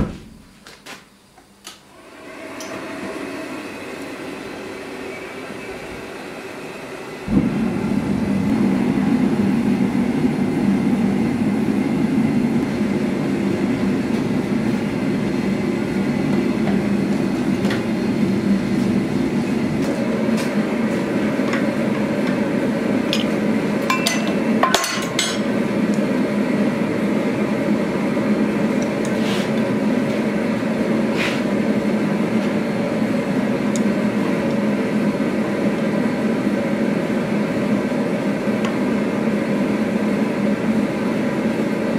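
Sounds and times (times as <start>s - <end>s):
forge burner rushing: 1.9s - 41.9s.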